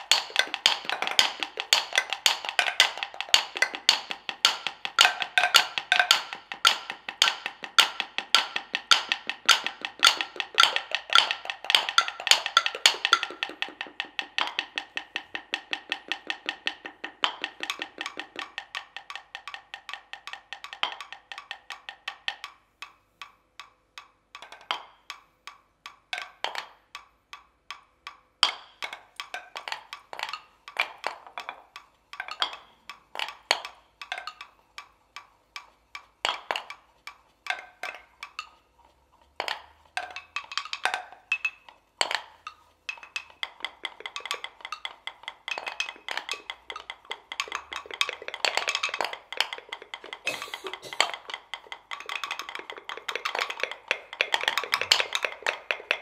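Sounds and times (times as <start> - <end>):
wooden percussion clicks and knocks: 0.0 - 56.0.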